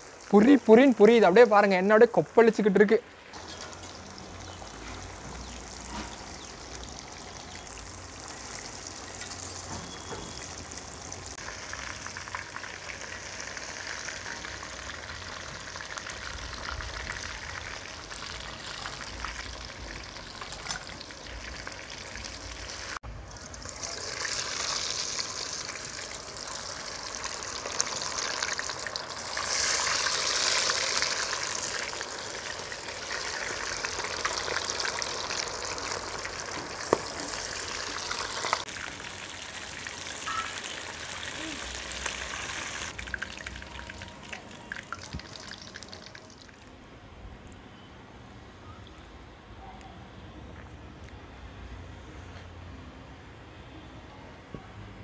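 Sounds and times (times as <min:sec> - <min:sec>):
fish deep-frying in oil: 0:00.0 - 0:46.7.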